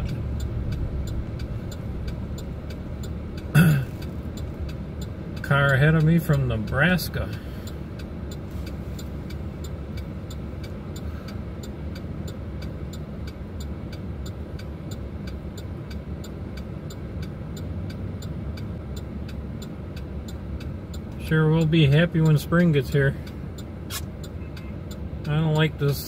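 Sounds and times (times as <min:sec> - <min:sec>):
engine and road rumble: 0:00.0 - 0:26.0
turn signal ticking: 0:00.0 - 0:26.0.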